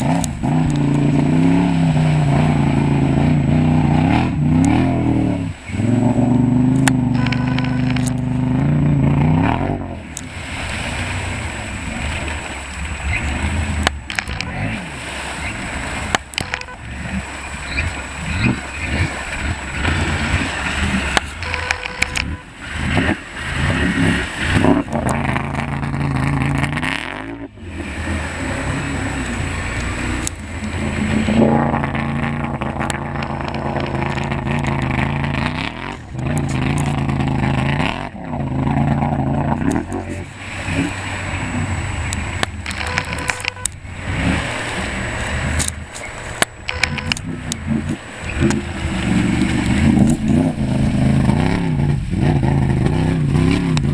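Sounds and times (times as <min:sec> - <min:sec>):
atv engine revving: 0:00.0 - 0:53.9
quad churning through water: 0:00.0 - 0:53.9.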